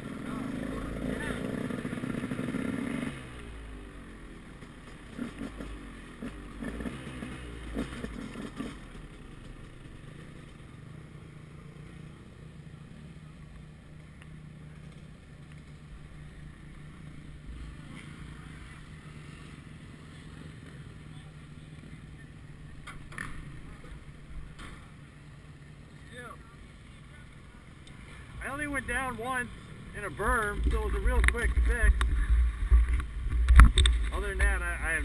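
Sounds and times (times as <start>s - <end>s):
dirt bike engine idling: 0.0s - 35.0s.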